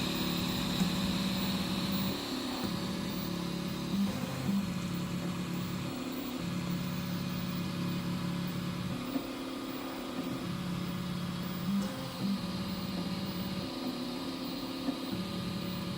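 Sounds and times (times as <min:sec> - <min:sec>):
stepper motors humming: 0:00.0 - 0:15.9.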